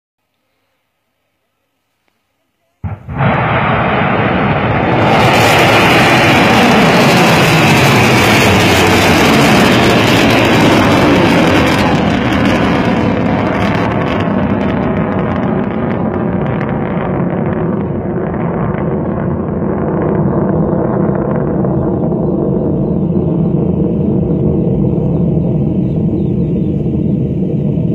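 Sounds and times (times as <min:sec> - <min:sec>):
rocket motor roaring: 0:02.9 - 0:27.9.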